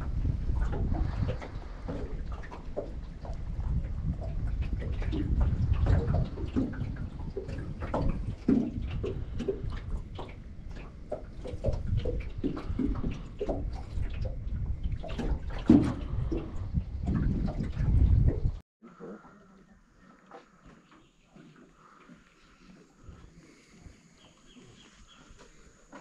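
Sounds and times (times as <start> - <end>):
wind rumble on microphone: 0.0 - 18.6, 21.3 - 26.0
small waves lapping: 0.0 - 26.0.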